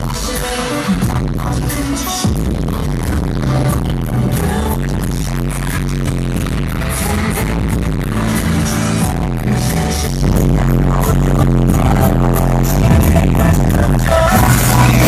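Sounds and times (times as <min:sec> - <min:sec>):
loud pop dance music: 0:00.0 - 0:15.0.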